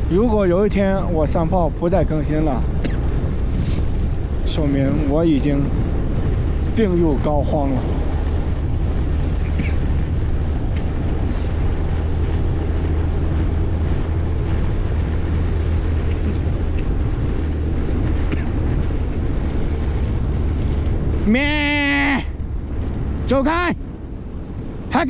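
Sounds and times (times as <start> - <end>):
road travel rumble: 0.0 - 25.0.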